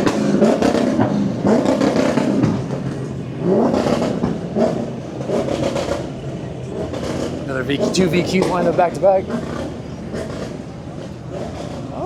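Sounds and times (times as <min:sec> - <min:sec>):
car engine revving: 0:00.0 - 0:12.0
crowd of cars noise: 0:00.0 - 0:12.0.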